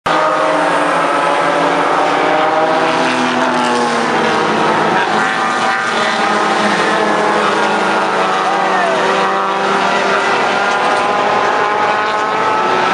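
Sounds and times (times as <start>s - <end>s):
race car engines revving: 0.1s - 12.9s.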